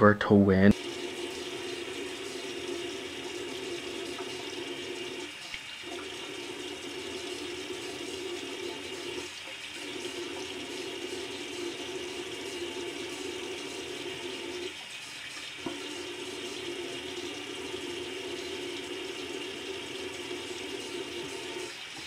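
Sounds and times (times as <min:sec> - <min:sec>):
tap water running into sink: 0:00.7 - 0:22.0.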